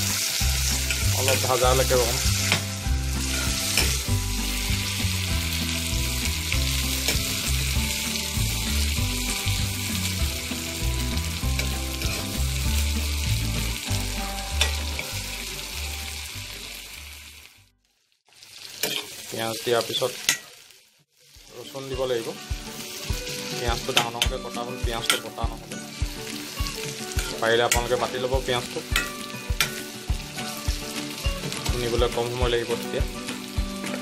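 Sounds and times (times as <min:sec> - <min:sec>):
onions sizzling in hot oil: 0:00.0 - 0:34.0.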